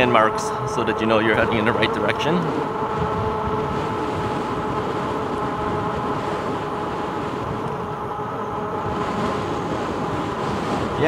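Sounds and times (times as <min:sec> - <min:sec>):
electric bike motor whine: 0:00.0 - 0:11.0
wind and road noise: 0:00.0 - 0:11.0.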